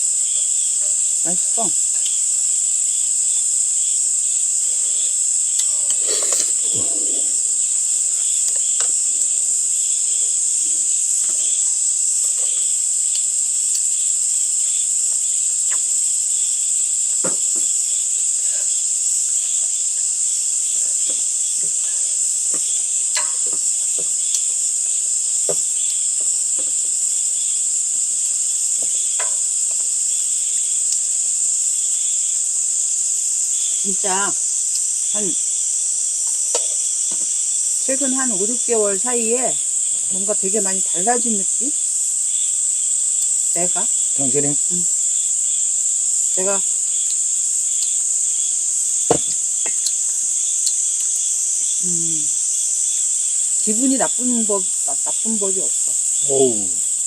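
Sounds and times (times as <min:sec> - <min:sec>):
insects trilling: 0:00.0 - 0:57.0
pulsing insect call: 0:00.0 - 0:57.0.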